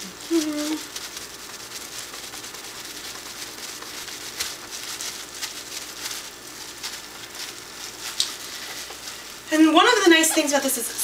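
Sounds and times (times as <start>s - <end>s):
plastic crinkling and rustling: 0.1s - 11.0s.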